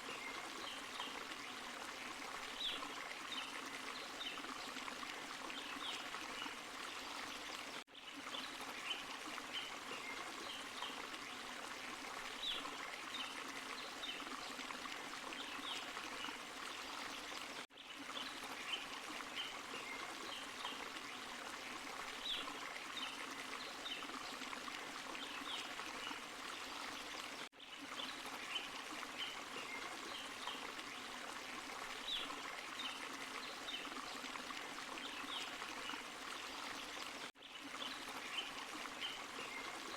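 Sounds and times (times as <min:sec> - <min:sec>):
waterfall splashing and trickling: 0:00.0 - 0:39.9.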